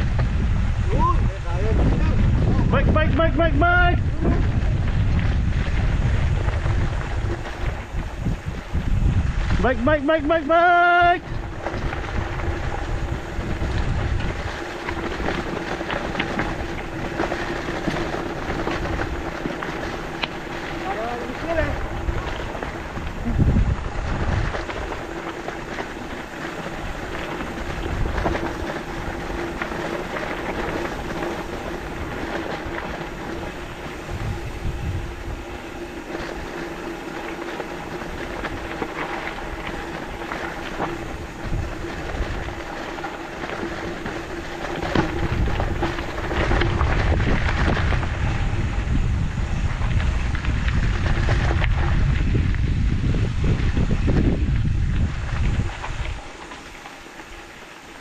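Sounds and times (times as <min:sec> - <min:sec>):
bike tyres on dirt: 0:00.0 - 0:58.0
steady hum: 0:00.0 - 0:58.0
wind buffeting microphone: 0:00.0 - 0:58.0.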